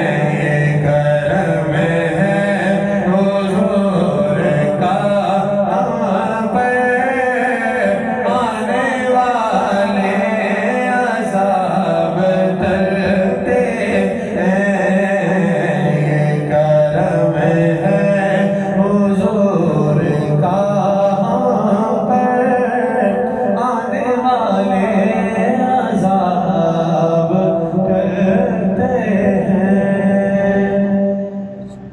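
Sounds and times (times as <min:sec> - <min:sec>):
men chanting a devotional song: 0:00.0 - 0:31.9.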